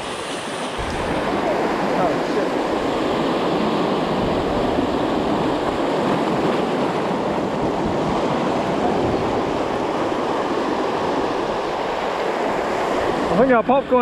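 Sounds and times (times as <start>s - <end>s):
surf washing over rocks: 0.0s - 14.0s.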